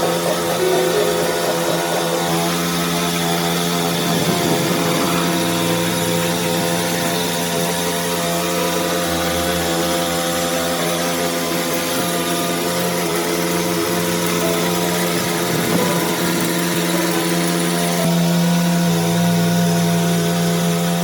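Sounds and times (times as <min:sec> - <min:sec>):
motor-driven machine humming: 0:00.0 - 0:21.0.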